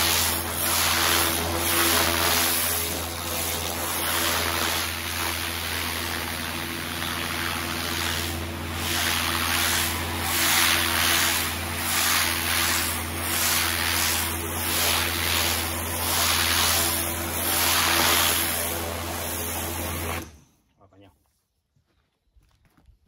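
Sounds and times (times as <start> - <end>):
pressure washer spraying: 0.0 - 20.4.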